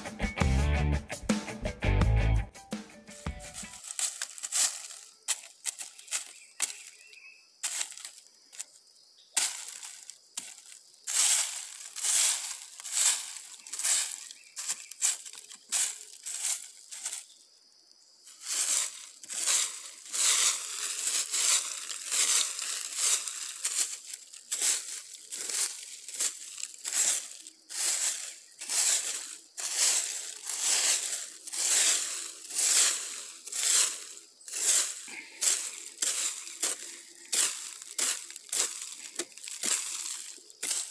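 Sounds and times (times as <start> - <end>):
dry leaves crunching underfoot: 3.1 - 17.5, 18.3 - 40.9.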